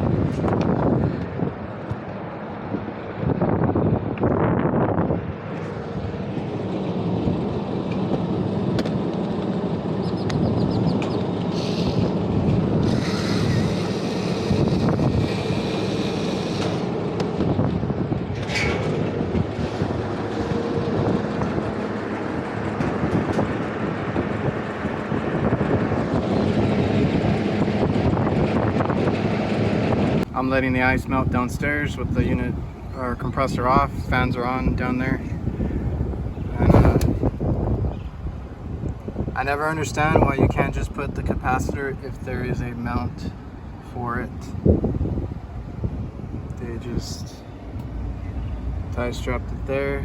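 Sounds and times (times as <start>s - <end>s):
air-conditioning units droning: 0.0s - 50.0s
wind noise on microphone: 0.0s - 50.0s.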